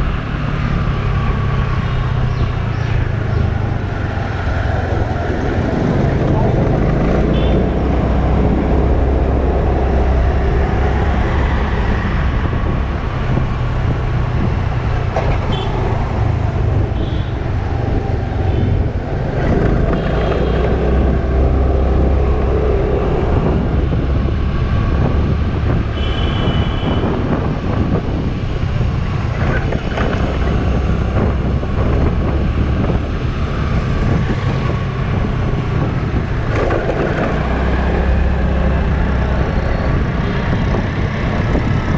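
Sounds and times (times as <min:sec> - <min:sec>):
road traffic: 0:00.0 - 0:41.9
wind on microphone: 0:00.0 - 0:41.9.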